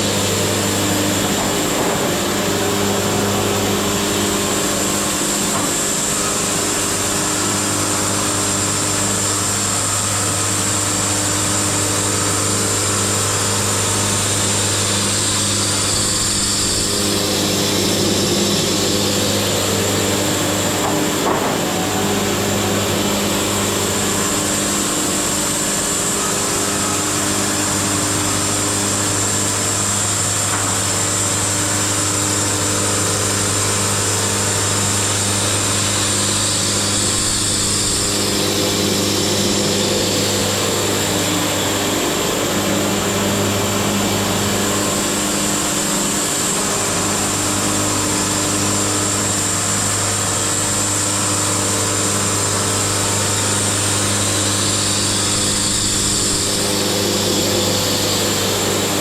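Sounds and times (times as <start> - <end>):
sawmill engine hum with whine: 0.0 - 59.0.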